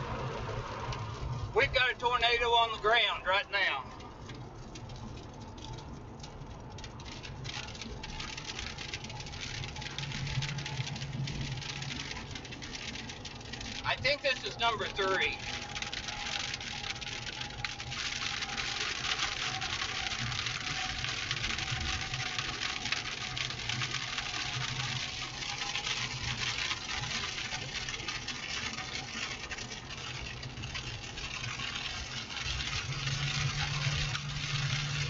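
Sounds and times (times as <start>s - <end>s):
low engine and road hum: 0.0s - 35.0s.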